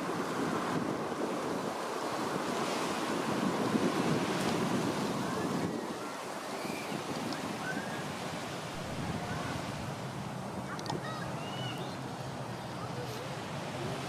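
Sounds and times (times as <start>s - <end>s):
ocean waves washing on beach: 0.0s - 14.0s
wind buffeting microphone: 0.0s - 14.0s.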